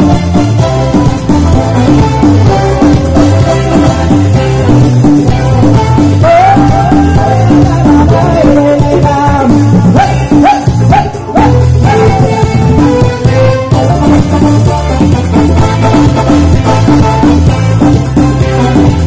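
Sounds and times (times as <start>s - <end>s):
live synthesizer dance music: 0.0s - 19.0s.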